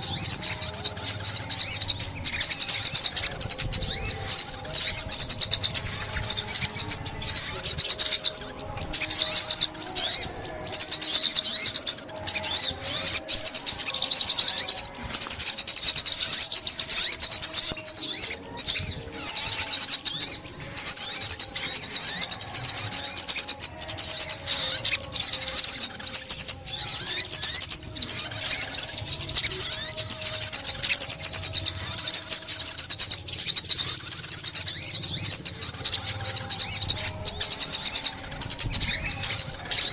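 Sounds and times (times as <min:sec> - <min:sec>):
bird twittering trills: 0:00.0 - 0:39.9.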